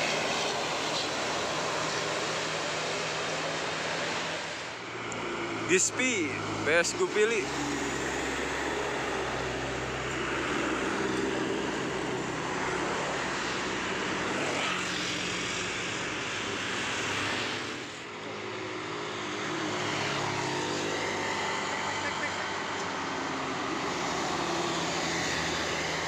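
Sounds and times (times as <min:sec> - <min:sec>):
car passing: 0:00.0 - 0:26.0
motorcycles passing: 0:00.0 - 0:26.0.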